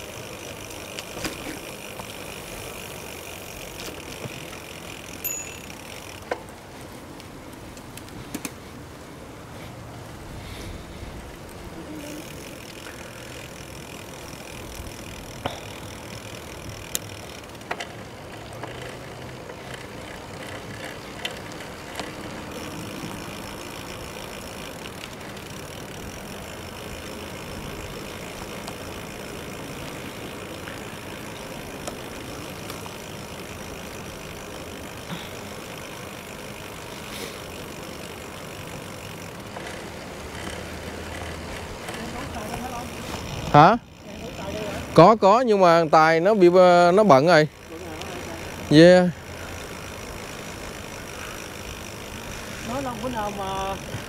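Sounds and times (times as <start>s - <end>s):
wind and tyre noise: 0.0s - 54.0s.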